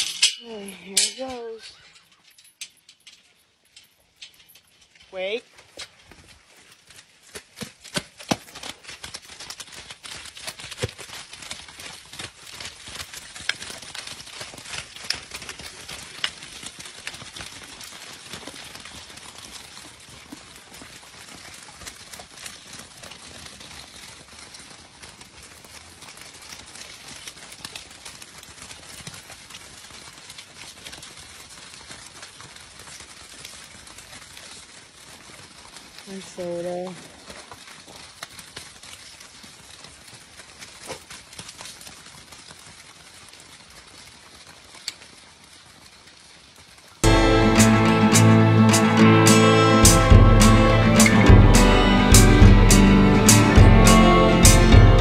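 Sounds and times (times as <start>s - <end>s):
horse hoofbeats on dirt: 0.0s - 55.0s.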